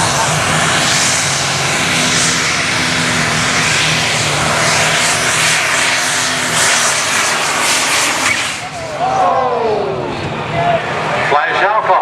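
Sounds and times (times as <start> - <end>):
tractor engine under heavy load: 0.0 - 12.0.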